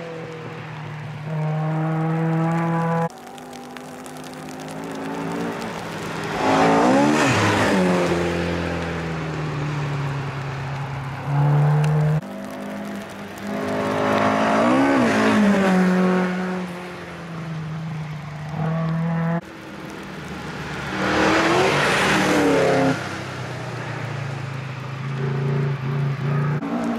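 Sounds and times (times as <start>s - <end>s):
rally cars passing at speed: 0.0s - 26.9s
tyres on gravel: 0.1s - 25.1s.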